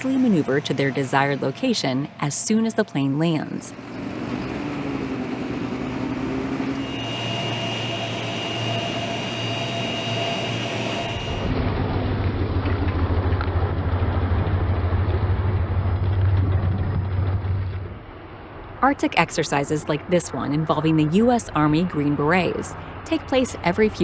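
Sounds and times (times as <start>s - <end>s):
engine running: 0.0s - 24.0s
high steady whine: 0.0s - 24.0s.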